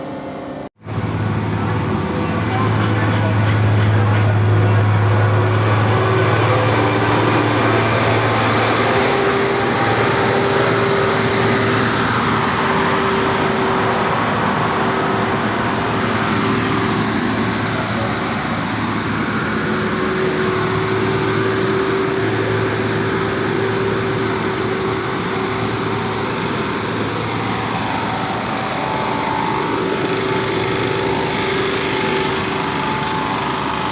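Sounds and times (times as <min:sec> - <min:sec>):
motor engines running: 0:00.0 - 0:33.9.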